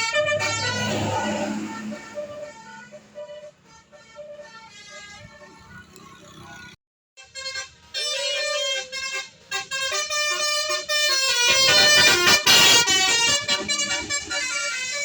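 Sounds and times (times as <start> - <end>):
multi-tone air horn melody: 0.0 - 5.8, 7.2 - 15.0.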